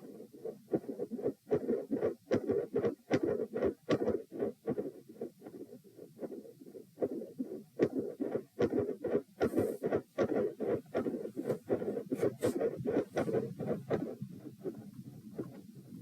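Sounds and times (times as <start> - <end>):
heartbeat through stethoscope: 0.0 - 16.0
stethoscope scratching and rubbing: 0.0 - 16.0.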